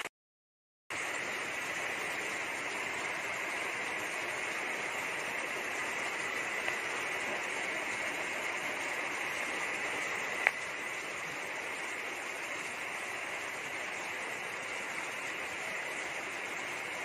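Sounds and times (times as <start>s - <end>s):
faint high whine: 0.9s - 17.0s.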